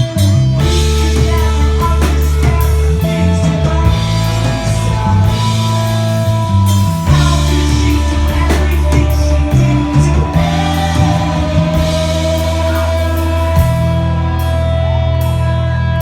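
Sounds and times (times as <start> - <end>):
rock music: 0.0 - 16.0
person singing: 0.6 - 15.2.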